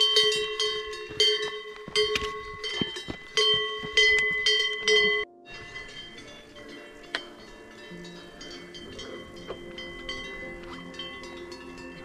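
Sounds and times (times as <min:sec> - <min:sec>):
cowbells clanking: 0:00.0 - 0:12.0.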